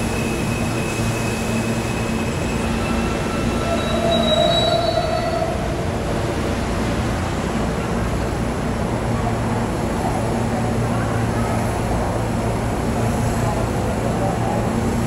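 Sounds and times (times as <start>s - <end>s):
subway train rumbling past: 0.0s - 15.0s.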